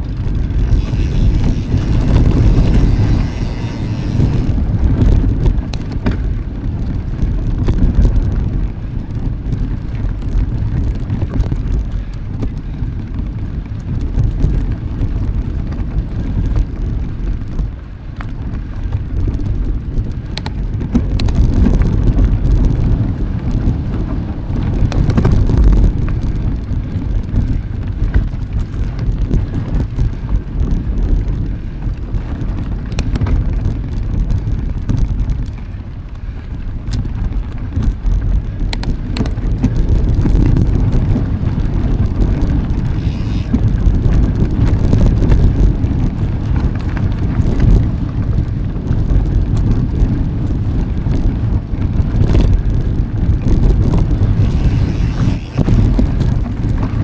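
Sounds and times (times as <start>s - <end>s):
bike clicks and rattles: 0.0s - 57.0s
wind rumble on microphone: 0.0s - 57.0s.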